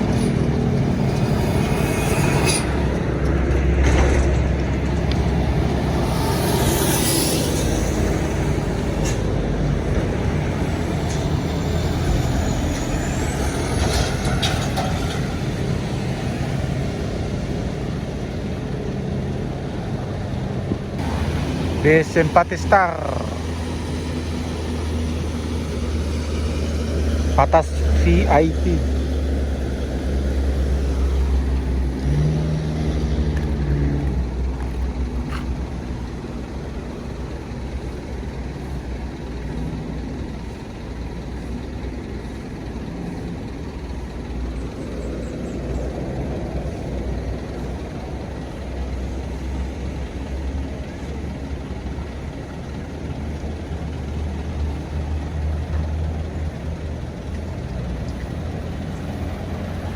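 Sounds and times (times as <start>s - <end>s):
diesel bus engine passing: 0.0s - 59.9s.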